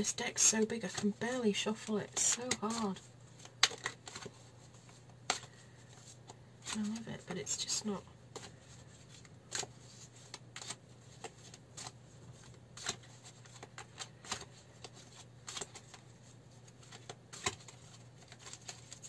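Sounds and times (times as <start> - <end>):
cards being shuffled: 0.2 - 19.0.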